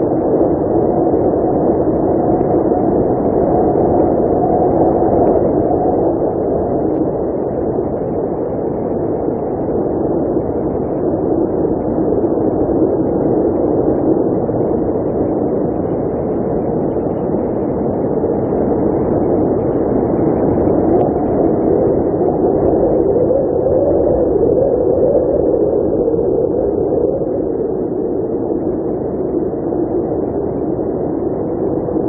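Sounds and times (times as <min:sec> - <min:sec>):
blizzard wind blowing: 0:00.0 - 0:32.0.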